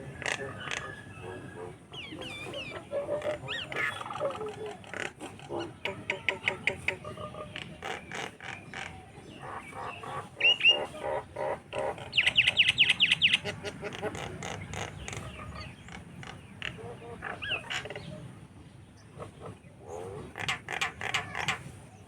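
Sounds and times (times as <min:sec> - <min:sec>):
birds chattering: 0:00.0 - 0:22.0.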